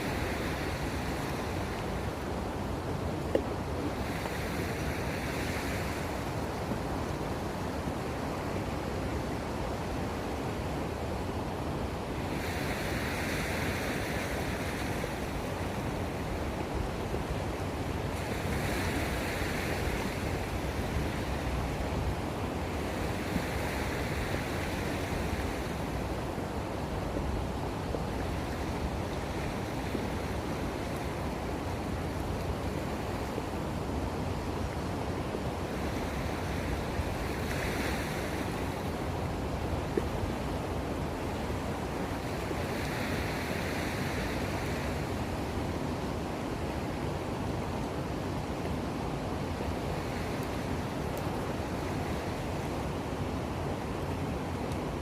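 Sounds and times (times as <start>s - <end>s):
sea waves washing in: 0.0s - 55.0s
wind on microphone: 0.0s - 55.0s.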